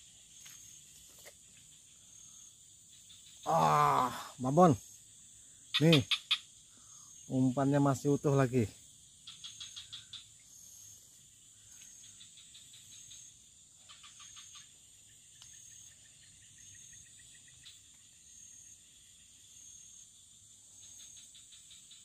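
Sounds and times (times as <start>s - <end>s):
high insect chirp: 0.0s - 22.0s
insect buzz: 0.0s - 22.0s
rapid insect ticks: 0.0s - 22.0s.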